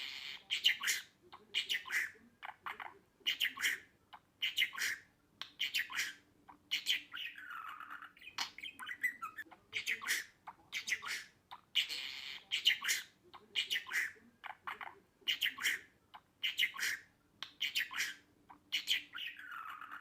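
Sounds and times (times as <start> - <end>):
budgerigar chirping and chattering: 0.0 - 20.0.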